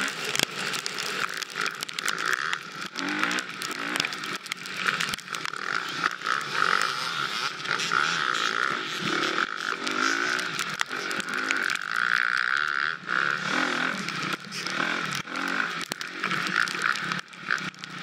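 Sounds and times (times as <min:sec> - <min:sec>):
bike rattling and knocking: 0:00.0 - 0:18.0
dirt bike engine revving: 0:00.0 - 0:18.0.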